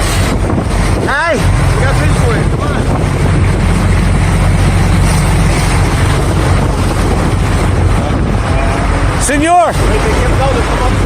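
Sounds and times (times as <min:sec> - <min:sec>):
boat engine humming: 0:00.0 - 0:11.0
wind rushing on microphone: 0:00.0 - 0:11.0.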